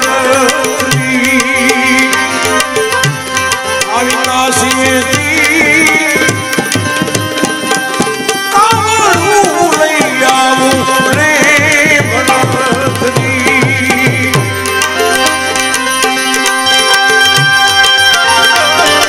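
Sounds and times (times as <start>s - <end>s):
man singing with vibrato: 0.0s - 16.4s
harmonium chords: 0.0s - 19.0s
tabla strokes: 0.0s - 19.0s.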